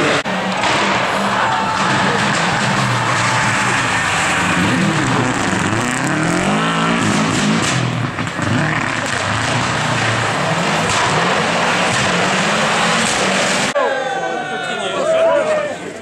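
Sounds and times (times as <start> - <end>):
rally car engine revving: 0.0 - 13.8.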